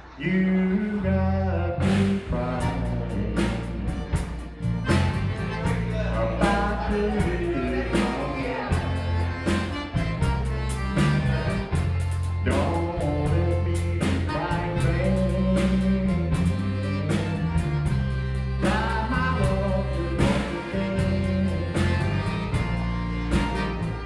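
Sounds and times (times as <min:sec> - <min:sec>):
bass line: 0:00.0 - 0:24.0
cajun band playing: 0:00.0 - 0:24.0
steady drum beat: 0:01.8 - 0:24.0.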